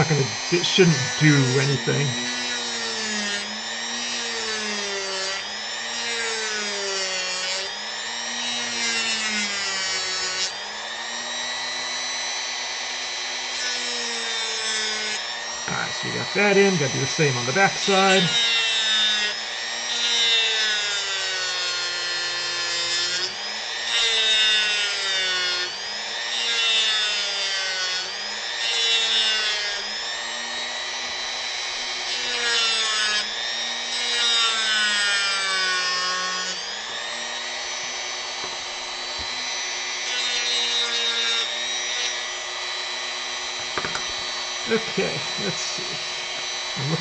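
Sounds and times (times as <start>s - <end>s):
rotary tool cutting into wood: 0.0s - 47.0s.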